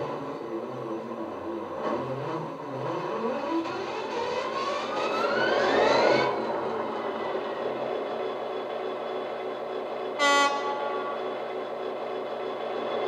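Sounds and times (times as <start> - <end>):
diesel engine sound through small speaker: 0.0 - 13.0.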